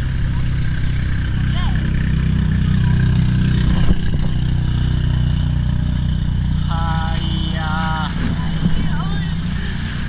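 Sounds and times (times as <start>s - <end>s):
motorboat engine droning: 0.0s - 10.0s.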